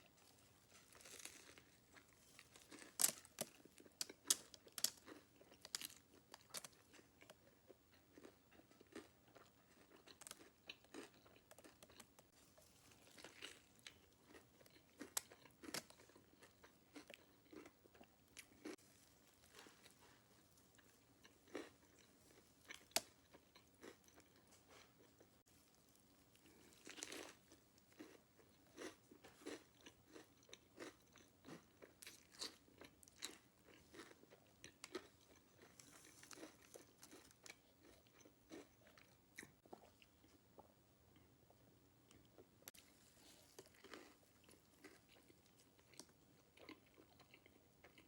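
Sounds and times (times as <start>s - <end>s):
person chewing crunchy food: 0.1s - 25.4s, 26.1s - 41.3s, 42.1s - 48.0s.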